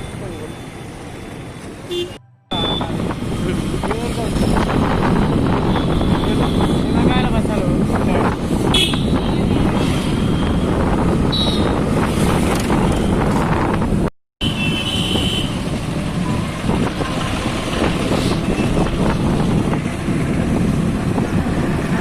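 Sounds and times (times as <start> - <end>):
road noise: 0.0 - 22.0
wind buffeting microphone: 2.6 - 14.1, 15.4 - 22.0.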